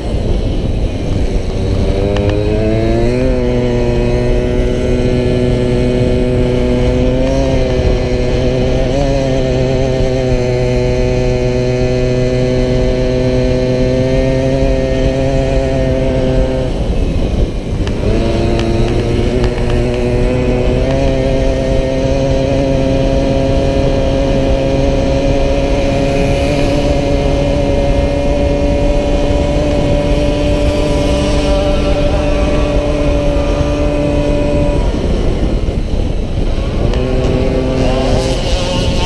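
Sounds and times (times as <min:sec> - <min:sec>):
moped engine revving high: 0:00.0 - 0:39.0
wind noise on microphone: 0:00.0 - 0:39.0.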